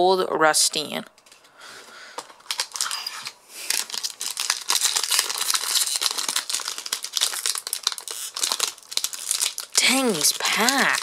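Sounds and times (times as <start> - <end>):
foil wrapper crinkling and tearing: 2.0 - 11.0.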